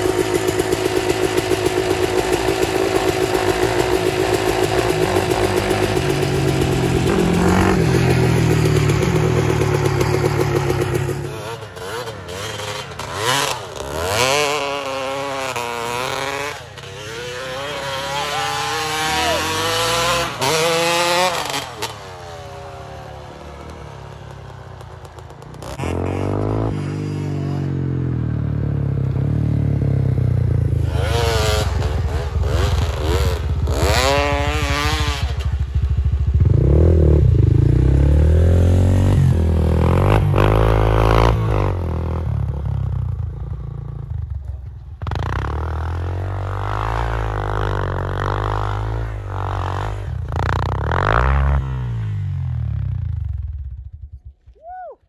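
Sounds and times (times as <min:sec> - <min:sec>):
dirt bike engine revving: 0:00.0 - 0:53.8.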